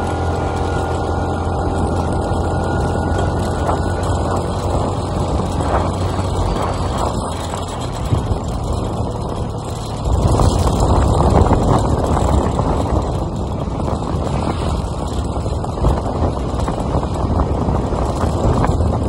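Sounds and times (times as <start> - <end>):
motorbike engine running: 0.0 - 19.0
road noise: 0.0 - 19.0
wind rushing over microphone: 0.0 - 19.0.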